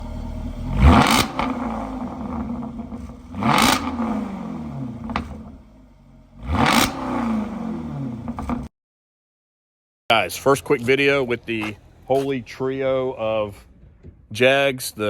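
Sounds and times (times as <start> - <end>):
car engine revving: 0.0 - 8.7, 10.1 - 15.0
sharp exhaust crack: 0.0 - 8.7, 10.1 - 15.0.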